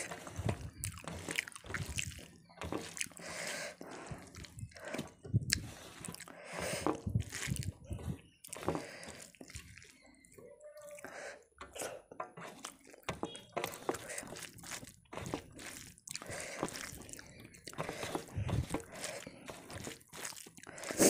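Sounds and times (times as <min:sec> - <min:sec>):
fingers squishing wet food: 0:00.0 - 0:21.0.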